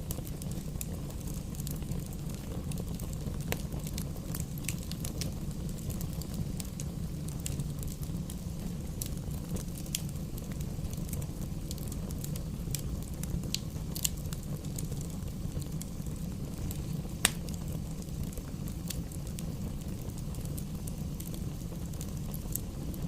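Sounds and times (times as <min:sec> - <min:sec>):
fire burning in fireplace: 0:00.0 - 0:23.0
fire crackles and pops: 0:00.0 - 0:23.0.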